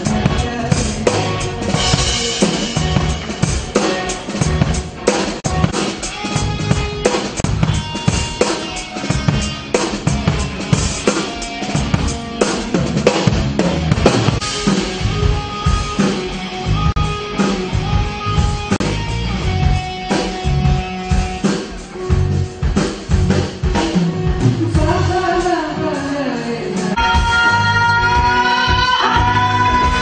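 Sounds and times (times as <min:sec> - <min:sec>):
drum kit hits: 0:00.0 - 0:25.0
live band music: 0:00.0 - 0:30.0.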